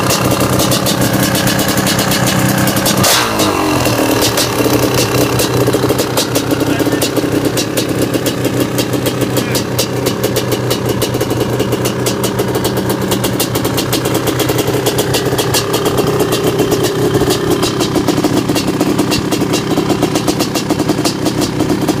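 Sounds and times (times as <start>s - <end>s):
two-stroke engine idling: 0.0s - 22.0s.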